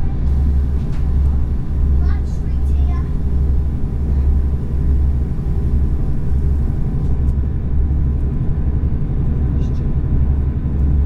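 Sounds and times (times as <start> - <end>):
train rumble from inside carriage: 0.0 - 11.0.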